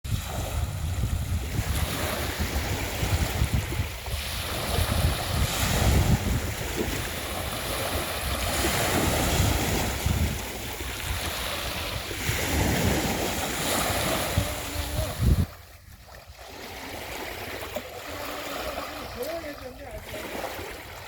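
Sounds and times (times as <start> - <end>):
sea waves washing in: 0.1 - 21.0
wind buffeting microphone: 0.1 - 21.0.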